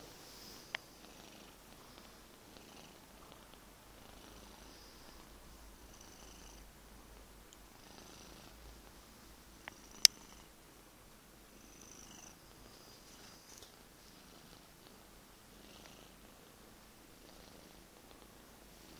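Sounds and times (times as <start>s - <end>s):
cat purring: 0.0s - 10.6s, 11.4s - 18.9s.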